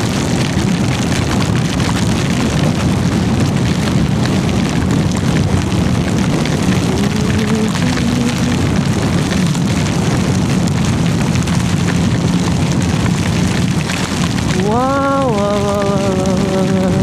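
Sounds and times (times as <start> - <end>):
motorcycle engine hum: 0.0 - 17.0
wind buffeting microphone: 0.0 - 17.0.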